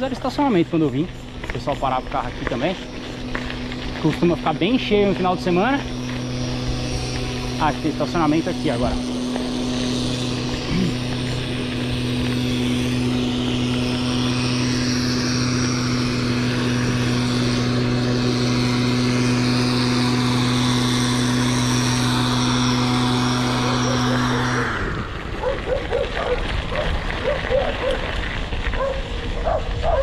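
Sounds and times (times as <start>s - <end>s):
bicycle tyres on dirt: 0.0s - 30.0s
low mechanical hum: 0.0s - 30.0s.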